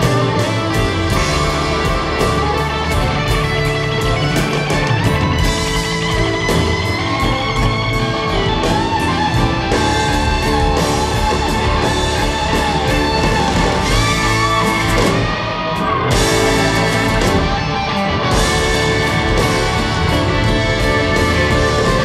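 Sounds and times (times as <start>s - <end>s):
rock band playing live: 0.0s - 22.0s
sustained guitar melody: 0.0s - 22.0s.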